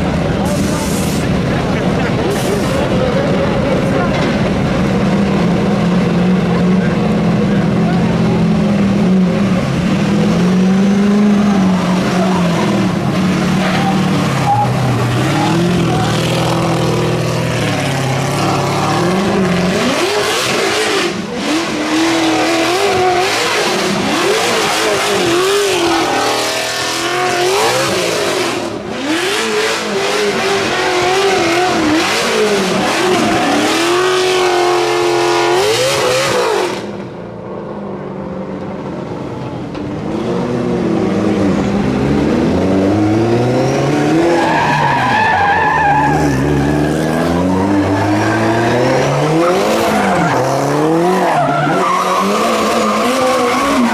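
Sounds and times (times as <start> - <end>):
racing car engine revving: 0.0 - 37.2, 39.7 - 53.9.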